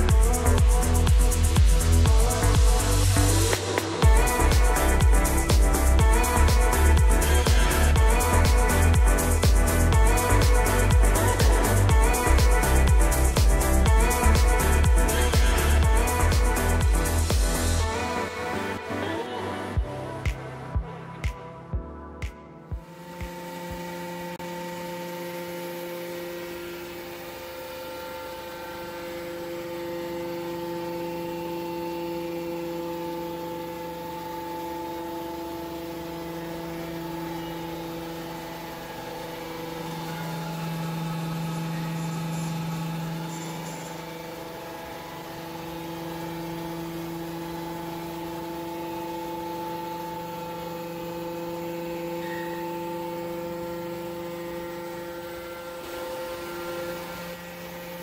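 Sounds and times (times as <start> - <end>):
hydraulic pump humming: 0.0 - 22.0, 22.7 - 58.0.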